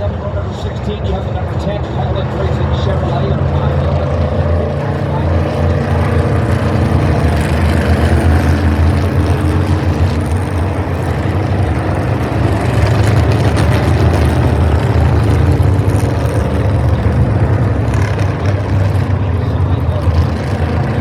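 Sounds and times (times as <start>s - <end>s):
race car engines rumbling: 0.0s - 21.0s.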